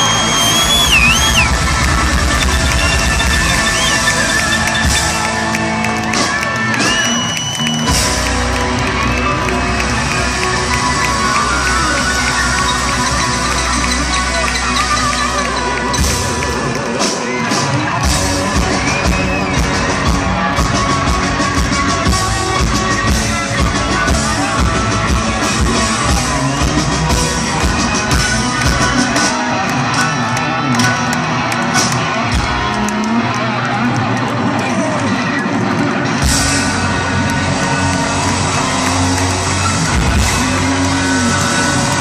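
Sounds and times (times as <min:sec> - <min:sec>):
drums beating: 0:00.0 - 0:42.0
electric guitars: 0:00.0 - 0:42.0.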